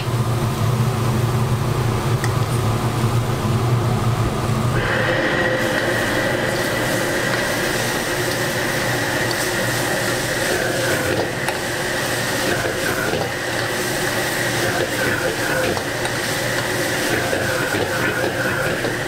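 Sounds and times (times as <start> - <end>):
gas burner rushing: 0.0 - 19.0
vegetables sizzling in a wok: 0.0 - 19.0.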